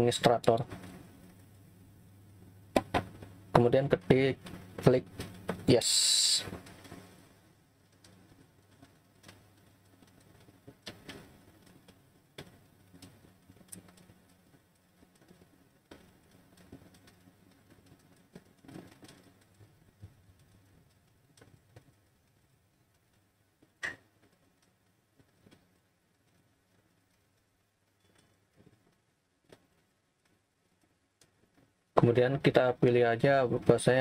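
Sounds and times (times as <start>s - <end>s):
small clicks and knocks: 2.7s - 5.7s, 6.4s - 32.6s.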